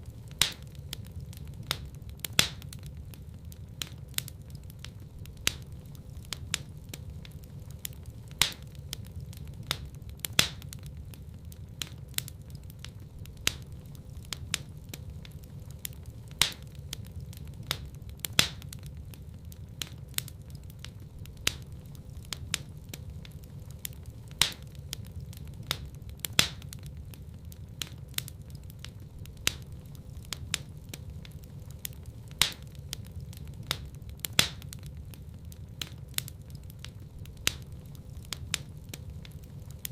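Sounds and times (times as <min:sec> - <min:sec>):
fire crackling and popping: 0:00.0 - 0:39.9
wood fire rumbling: 0:00.0 - 0:39.9.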